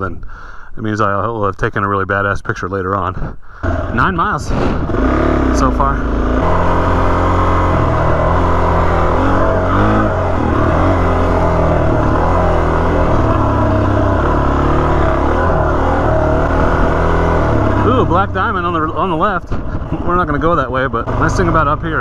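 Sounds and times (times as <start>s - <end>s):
motorcycle engine running: 3.6s - 22.0s.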